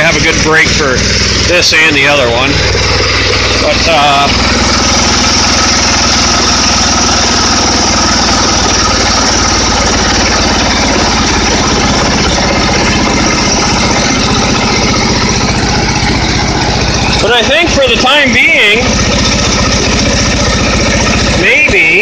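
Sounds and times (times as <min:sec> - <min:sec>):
lawn tractor engine idling: 0:00.0 - 0:22.0.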